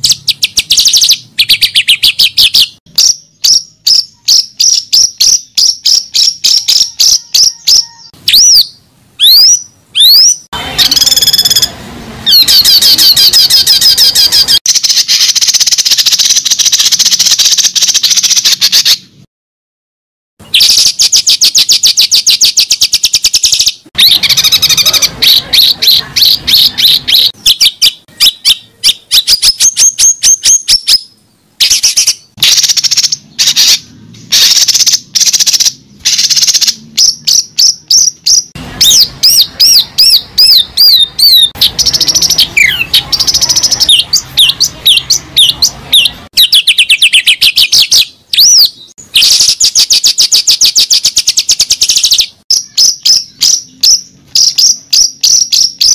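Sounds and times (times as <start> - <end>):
down-slurred bird whistles: 0.0 - 11.7, 12.3 - 19.1, 20.4 - 55.9
bird trilling chirps: 0.0 - 19.1, 20.4 - 55.9.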